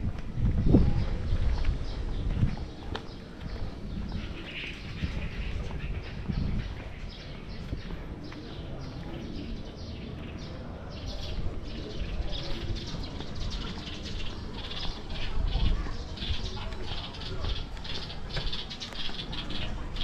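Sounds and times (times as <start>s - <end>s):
small birds chirping: 0.5s - 20.0s.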